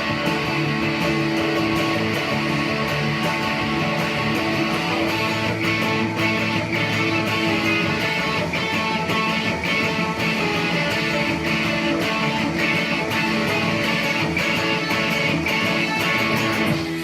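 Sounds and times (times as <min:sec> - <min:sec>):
bass guitar: 0:00.0 - 0:17.0
drum beat: 0:00.0 - 0:17.0
electric guitar solo: 0:00.0 - 0:17.0.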